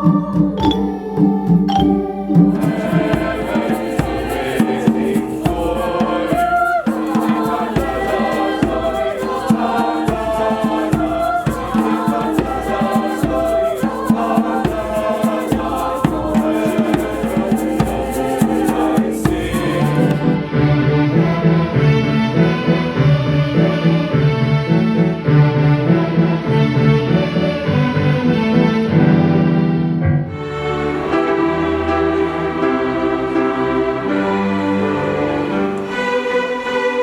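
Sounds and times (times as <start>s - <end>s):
choir singing with accompaniment: 0.0s - 37.0s.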